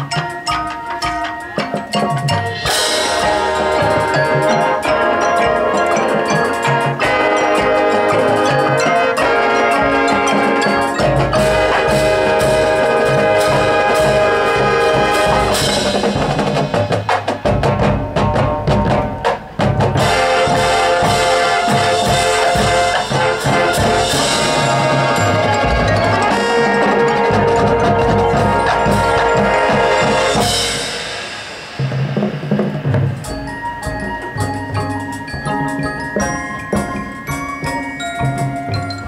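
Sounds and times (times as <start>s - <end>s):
drumline: 0.0s - 39.0s
mallet percussion: 0.0s - 39.0s
marching band brass chords: 0.0s - 39.0s.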